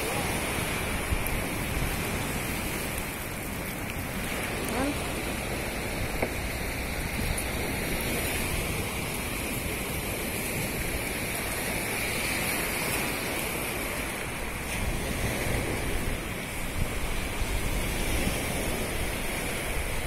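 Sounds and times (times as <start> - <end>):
surf washing on beach: 0.0 - 20.0
wind on microphone: 0.0 - 20.0.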